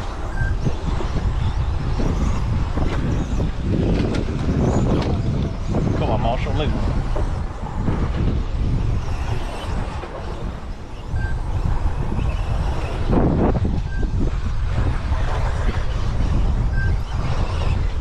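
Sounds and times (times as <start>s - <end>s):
rc trucks racing: 0.0s - 18.0s
wind rumbling on microphone: 0.0s - 18.0s.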